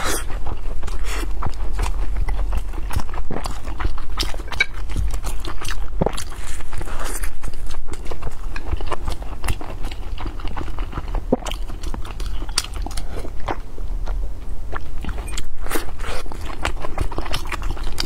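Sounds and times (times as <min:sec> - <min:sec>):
chewing with wet mouth clicks: 0:00.0 - 0:18.0.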